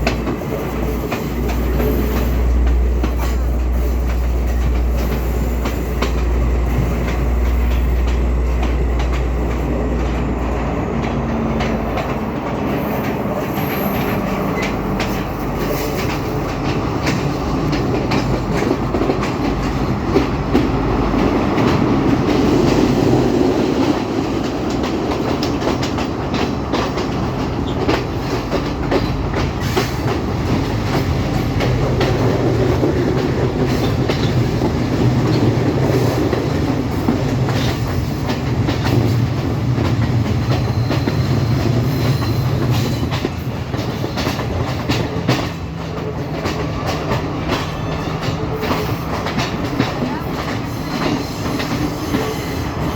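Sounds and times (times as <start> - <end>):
train rumbling along track: 0.0 - 52.9
wheels clacking over rail joints: 0.0 - 52.9.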